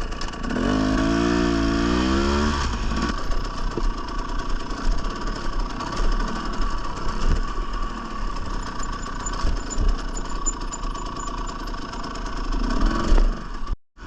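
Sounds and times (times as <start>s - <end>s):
dirt bike engine running: 0.0s - 13.8s.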